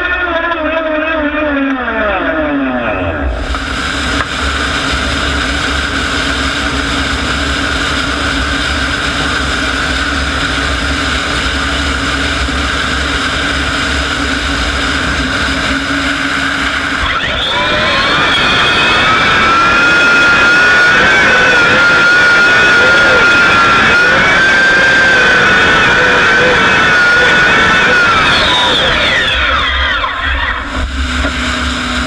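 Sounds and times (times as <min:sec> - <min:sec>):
low engine rumble: 0:00.0 - 0:32.0
turbine engine whining: 0:00.0 - 0:32.0.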